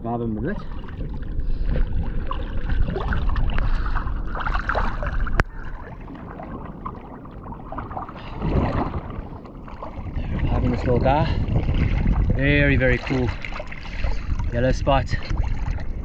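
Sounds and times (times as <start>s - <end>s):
water sloshing and splashing: 0.2s - 16.0s.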